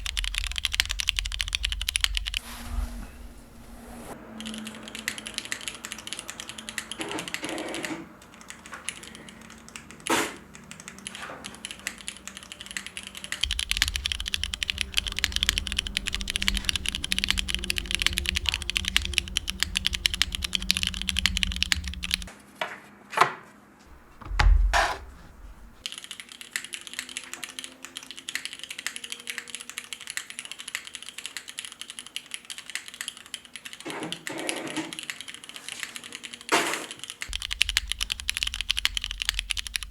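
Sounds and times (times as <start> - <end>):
typing on mechanical keyboard: 0.0 - 2.4, 4.3 - 22.3, 23.9 - 39.9.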